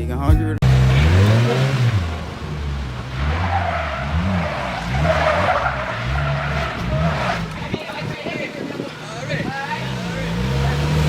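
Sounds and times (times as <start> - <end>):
car engine revving: 0.6 - 11.0
tyres squealing on pavement: 0.7 - 11.0.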